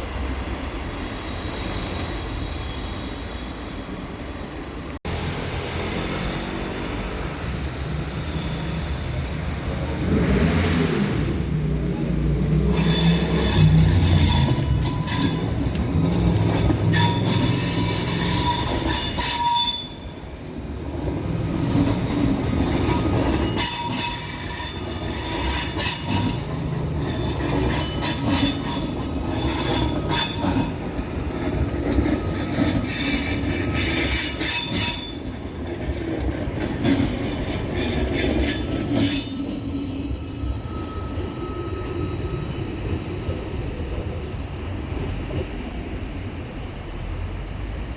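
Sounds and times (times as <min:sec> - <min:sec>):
low train rumble: 0:00.0 - 0:47.9
train wheels squealing on rails: 0:00.0 - 0:47.9.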